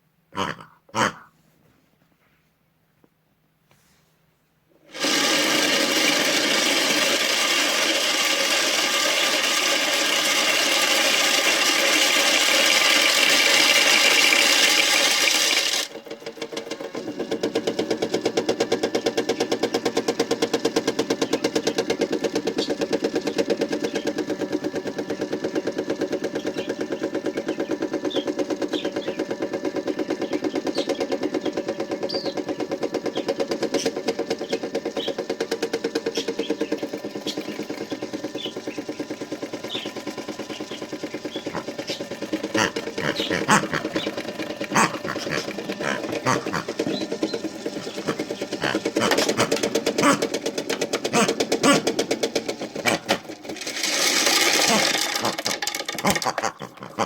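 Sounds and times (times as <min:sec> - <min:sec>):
small electric motor whirring: 0:04.9 - 0:57.0.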